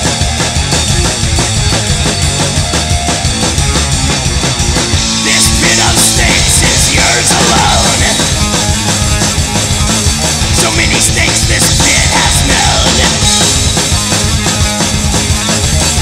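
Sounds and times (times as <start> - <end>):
distorted electric guitars: 0.0 - 16.0
drum kit with cymbal crashes: 0.0 - 16.0.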